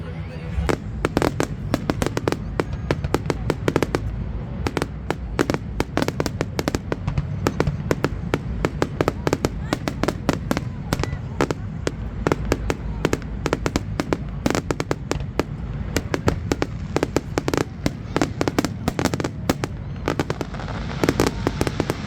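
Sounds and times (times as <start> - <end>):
fireworks cracks and bangs: 0.0 - 22.0.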